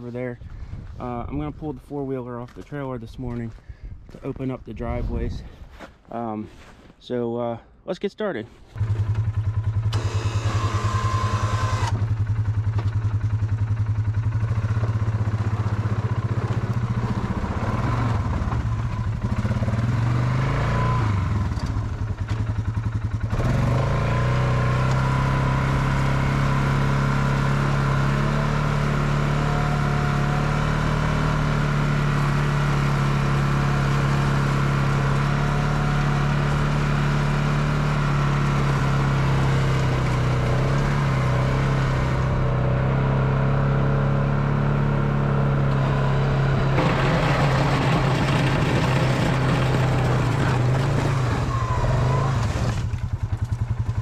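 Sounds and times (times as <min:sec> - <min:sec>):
atv engine running: 0:08.7 - 0:54.0.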